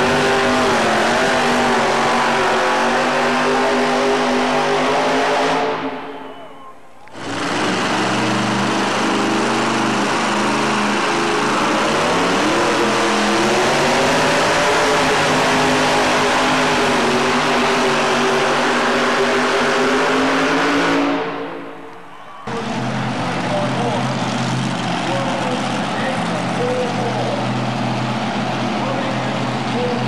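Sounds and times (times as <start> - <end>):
truck engine running hard: 0.0 - 6.1, 7.0 - 30.0.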